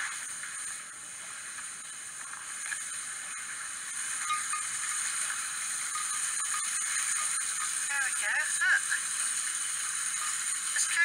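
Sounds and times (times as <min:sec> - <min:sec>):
small waterfall hissing: 0:00.0 - 0:11.0.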